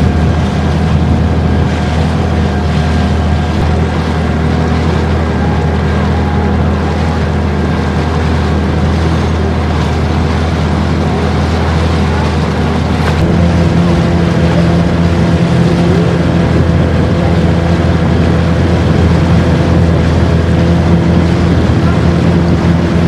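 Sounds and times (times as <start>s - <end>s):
motorboat engine droning: 0.0s - 23.0s
water noise: 0.0s - 23.0s
wind noise: 0.0s - 23.0s.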